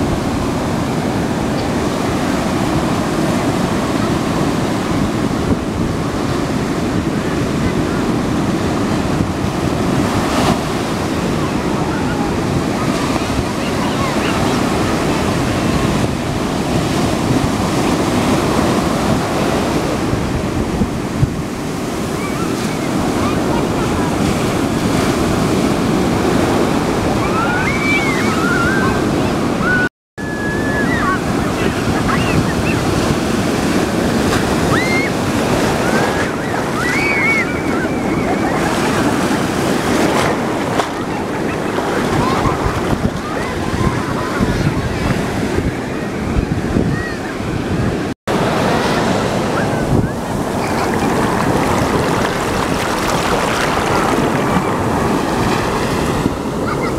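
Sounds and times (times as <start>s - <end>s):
ocean surf breaking on beach: 0.0s - 56.9s
wind buffeting microphone: 0.0s - 56.9s.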